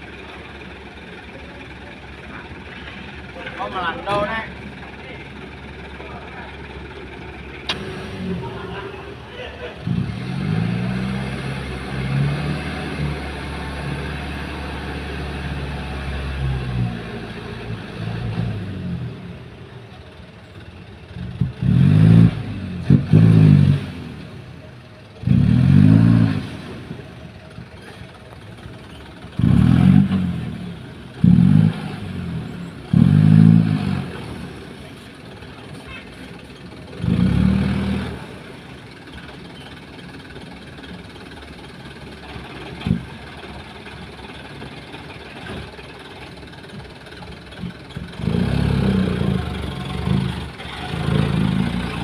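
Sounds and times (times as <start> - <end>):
truck diesel engine revving: 0.0 - 19.7, 21.0 - 52.0.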